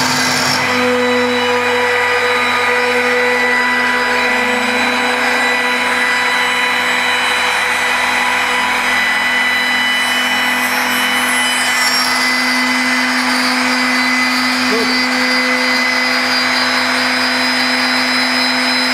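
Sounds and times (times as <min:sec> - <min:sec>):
milling machine whine and hiss: 0:00.0 - 0:18.9.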